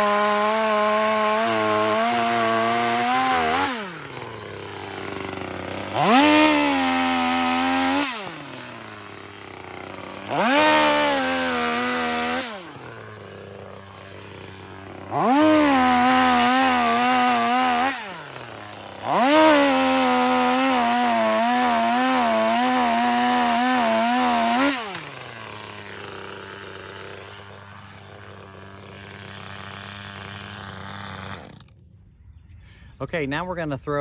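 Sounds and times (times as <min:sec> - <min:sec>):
chainsaw idling and revving: 0:00.0 - 0:31.8.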